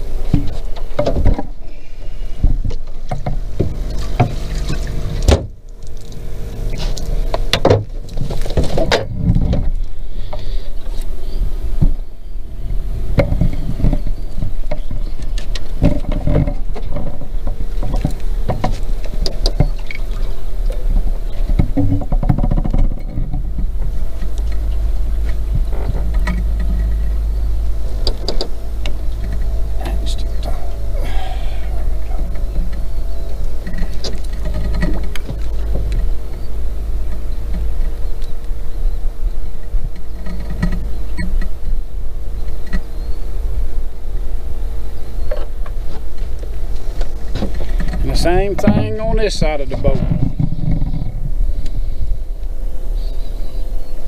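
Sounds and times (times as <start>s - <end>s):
boat motor running: 0.0s - 54.0s.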